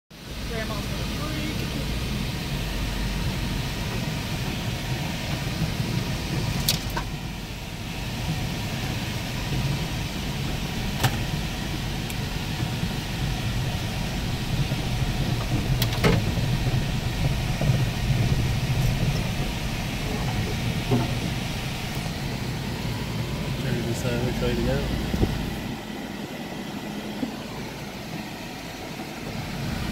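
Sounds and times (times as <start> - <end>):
vehicle engine rumbling: 0.1 - 29.9.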